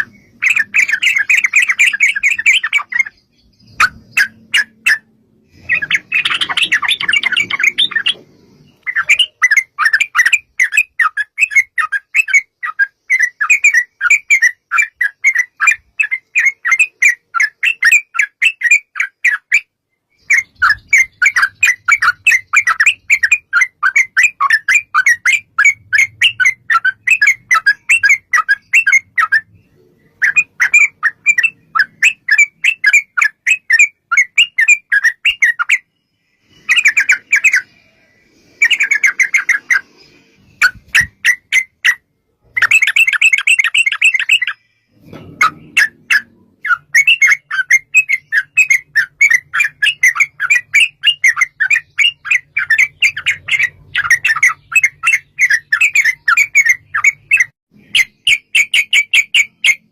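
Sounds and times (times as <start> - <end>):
bulbul singing bubbly chattering song: 0.0 - 44.8, 45.4 - 59.9.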